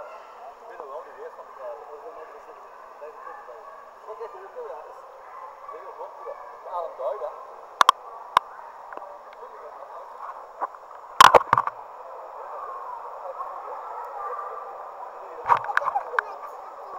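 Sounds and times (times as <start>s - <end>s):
muffled indoor pool hubbub: 0.0s - 16.9s.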